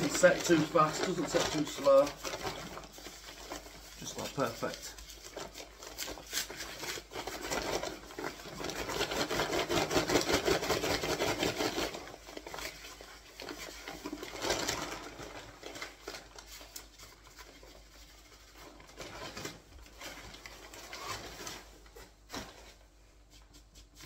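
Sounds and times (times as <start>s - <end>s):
paper sack rustling: 0.0s - 22.9s.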